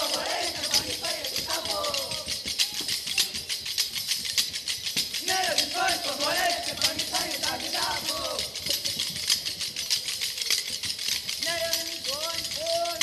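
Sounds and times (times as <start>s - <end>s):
wooden sticks clacking: 0.0s - 13.0s.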